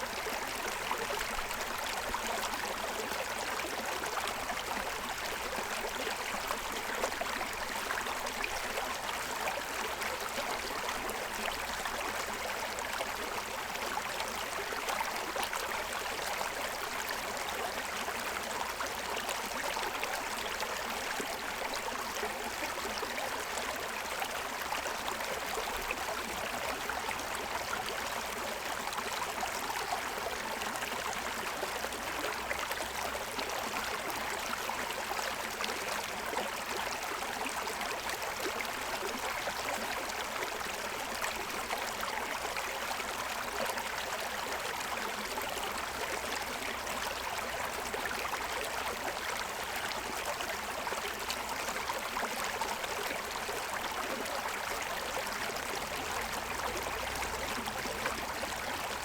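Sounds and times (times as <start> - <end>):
stream over stones: 0.0 - 59.0.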